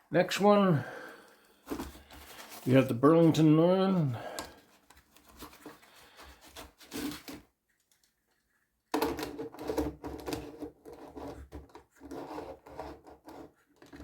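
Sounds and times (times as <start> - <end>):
plastic model and packaging handled: 1.1 - 14.0.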